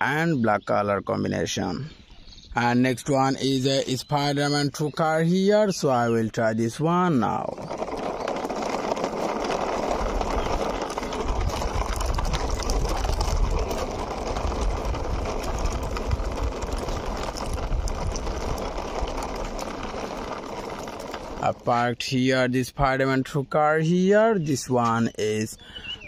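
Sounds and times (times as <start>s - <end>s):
toy car wheels on concrete: 3.1s - 26.0s.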